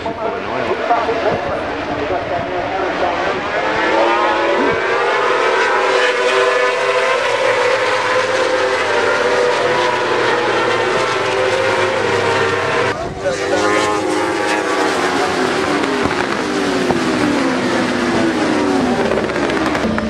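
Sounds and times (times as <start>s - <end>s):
motorcycle engines revving high: 0.0s - 20.0s.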